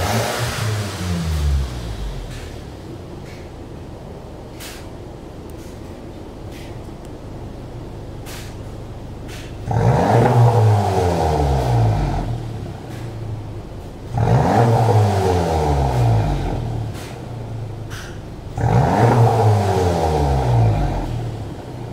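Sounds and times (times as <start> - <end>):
car engine revving: 0.0 - 4.9, 8.2 - 21.9.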